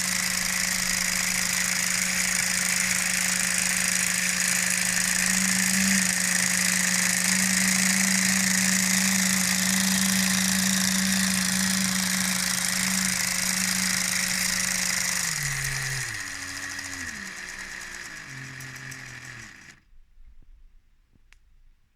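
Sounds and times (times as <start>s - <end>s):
toy train motor whining: 0.0s - 19.8s.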